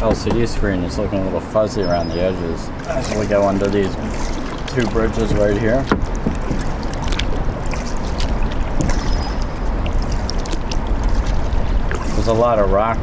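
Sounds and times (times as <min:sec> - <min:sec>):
paddle splashing and dripping water: 0:00.0 - 0:13.0
steady low rumble: 0:00.0 - 0:13.0.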